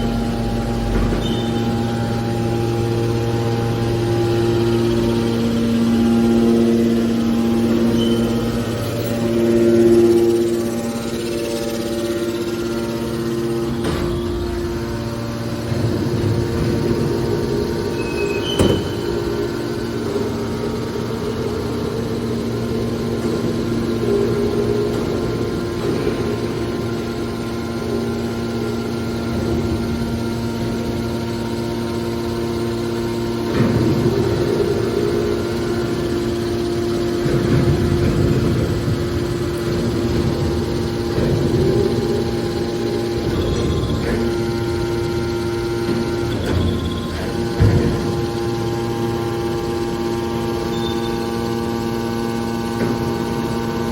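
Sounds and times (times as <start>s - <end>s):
hydraulic power unit hum: 0.0s - 53.9s
metallic knocks and clanking: 0.3s - 6.4s, 7.0s - 27.5s, 28.8s - 49.8s.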